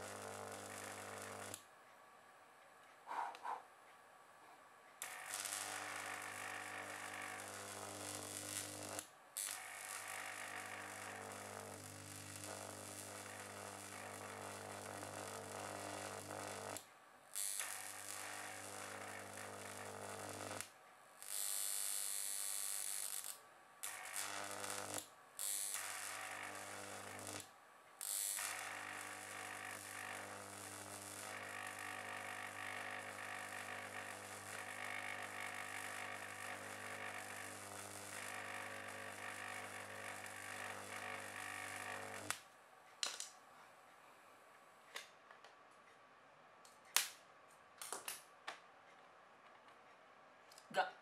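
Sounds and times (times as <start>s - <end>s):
carbon arc buzzing hum: 0.0s - 43.7s.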